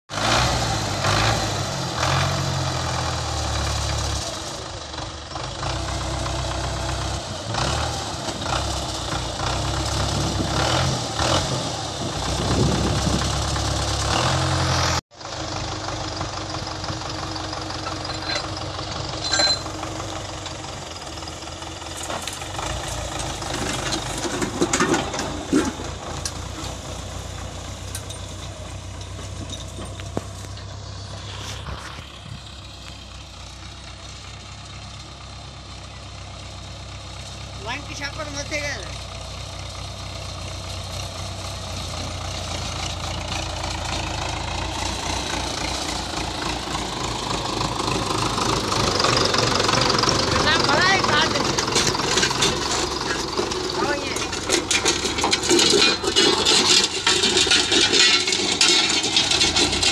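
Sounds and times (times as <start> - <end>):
tractor diesel engine running: 0.1 - 59.9.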